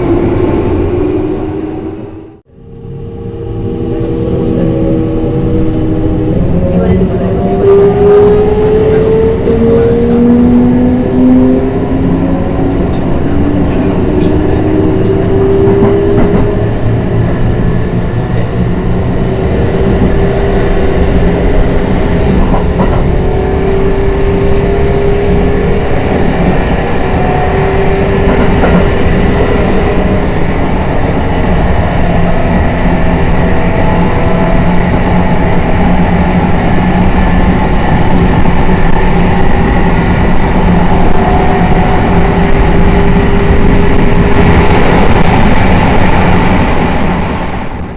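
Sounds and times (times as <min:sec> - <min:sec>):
wheels rumbling on rails: 0:00.0 - 0:47.9.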